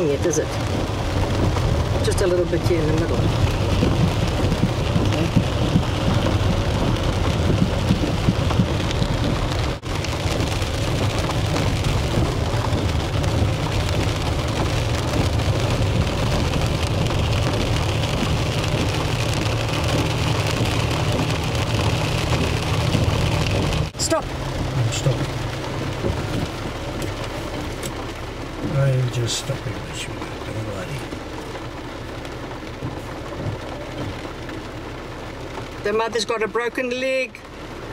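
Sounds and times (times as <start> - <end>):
heavy rain on vehicle roof: 0.0 - 37.9
vehicle low rumble: 0.0 - 37.9.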